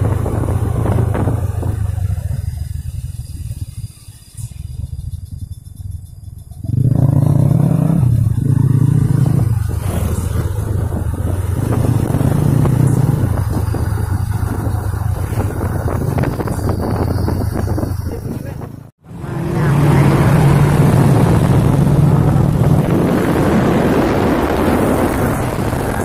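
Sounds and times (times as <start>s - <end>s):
diesel truck engine rumbling: 0.0s - 26.0s.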